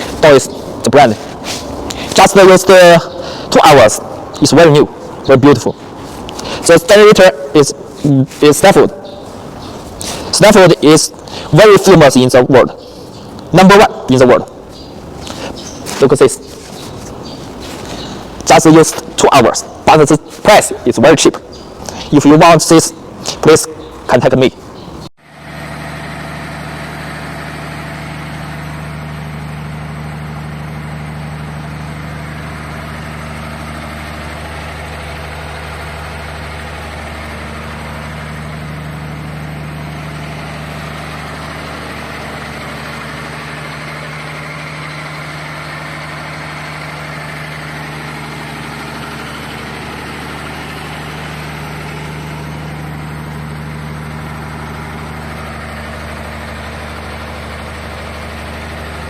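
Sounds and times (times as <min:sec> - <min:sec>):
diesel generator engine running: 0:00.0 - 0:59.0.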